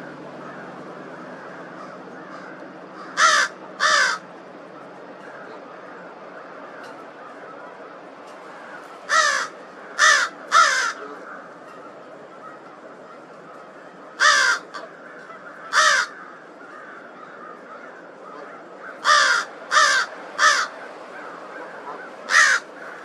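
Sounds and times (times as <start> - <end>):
crow calling harshly: 0.0 - 7.9, 8.5 - 23.0.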